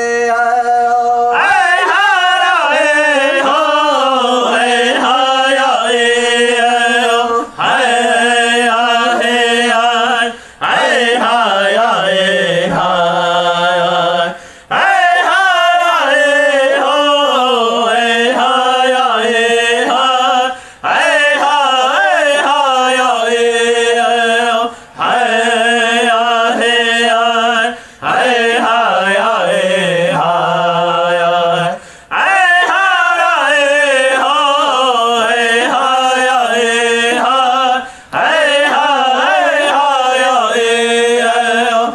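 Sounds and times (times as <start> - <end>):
unaccompanied chant singing: 0.0 - 41.9.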